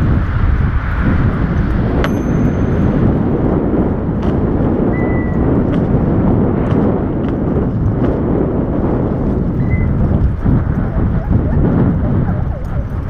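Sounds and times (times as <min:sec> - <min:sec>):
scooter wheels rolling: 0:00.0 - 0:13.0
wind on microphone: 0:00.0 - 0:13.0.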